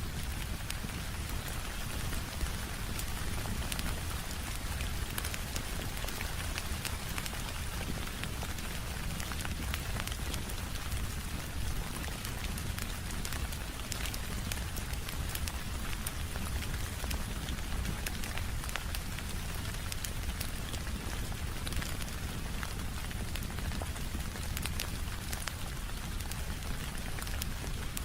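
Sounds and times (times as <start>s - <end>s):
steady rain: 0.0s - 28.0s
wood fire crackling: 0.0s - 28.0s.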